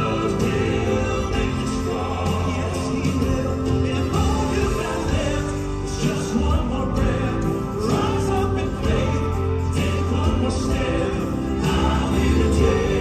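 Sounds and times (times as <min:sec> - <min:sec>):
live band with steady bass: 0:00.0 - 0:13.0
male quartet singing in harmony: 0:00.0 - 0:13.0.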